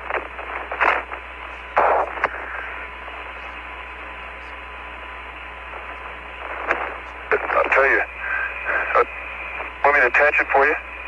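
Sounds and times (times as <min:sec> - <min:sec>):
radio hiss: 0:00.0 - 0:11.0
static crackles: 0:00.0 - 0:11.0.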